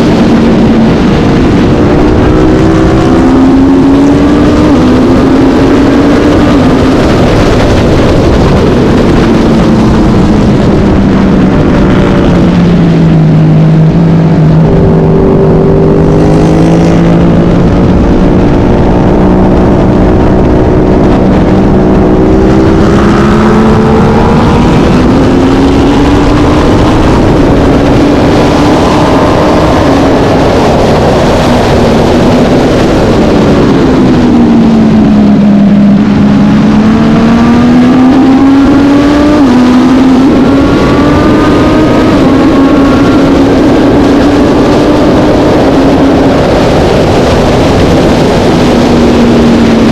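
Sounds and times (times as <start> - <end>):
racing motorcycle engine: 0.0 - 49.9
wind rushing: 0.0 - 49.9.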